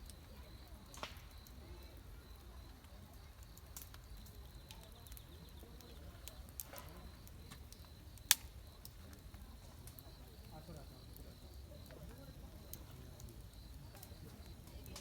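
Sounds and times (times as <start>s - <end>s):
campfire crackling: 0.0s - 15.0s
low fire rumble: 0.0s - 15.0s.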